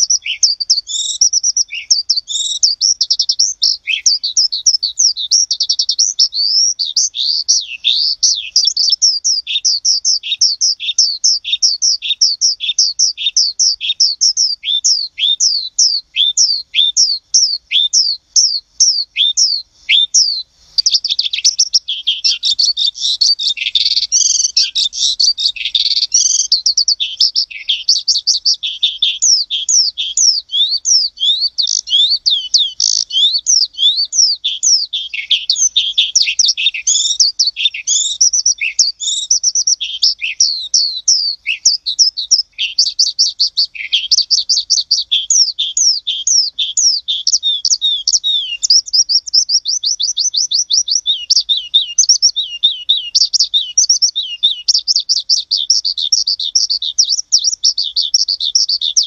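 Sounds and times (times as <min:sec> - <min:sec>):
birds chirping and singing: 0:00.0 - 0:59.0
fast even bird trill: 0:00.0 - 0:59.0.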